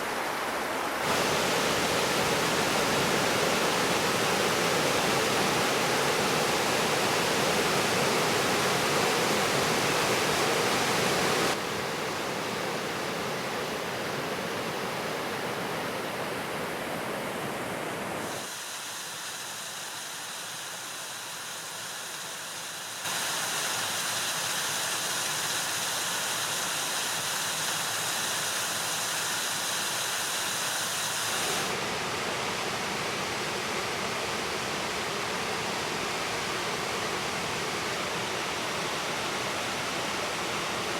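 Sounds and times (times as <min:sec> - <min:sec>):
waterfall roaring: 0:00.0 - 0:18.5, 0:23.1 - 0:40.9.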